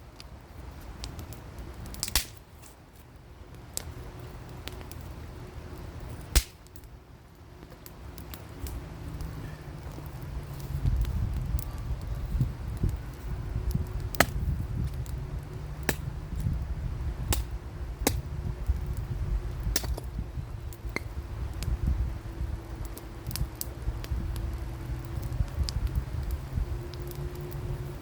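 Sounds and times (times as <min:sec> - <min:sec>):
campfire crackling: 0:00.0 - 0:28.0
steady low rumble: 0:03.2 - 0:28.0.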